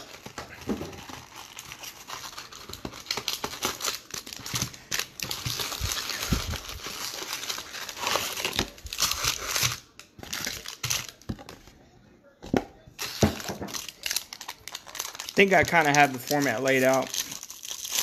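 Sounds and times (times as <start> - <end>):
foil packs crinkling: 0.0 - 11.3, 13.0 - 18.0.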